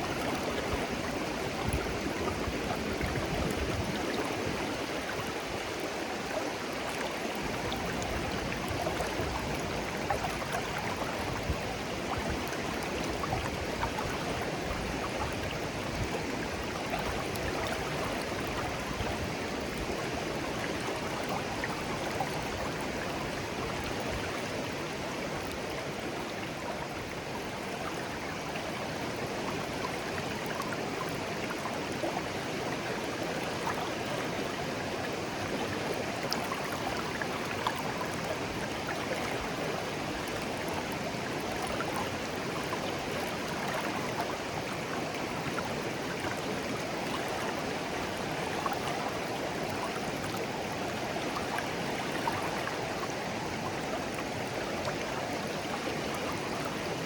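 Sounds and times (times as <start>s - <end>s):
small water splashes: 0.0s - 57.0s
stream babbling: 0.0s - 57.0s.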